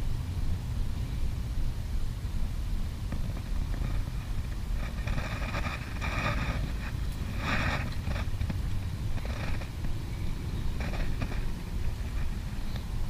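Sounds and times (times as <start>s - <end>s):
wind rumbling on microphone: 0.0s - 13.0s
scratchy hissing noises: 1.4s - 13.0s.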